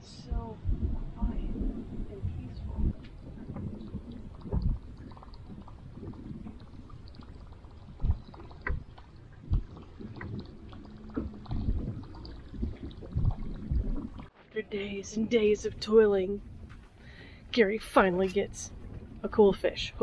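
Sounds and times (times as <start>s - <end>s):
small waves lapping against hull: 0.0s - 20.0s.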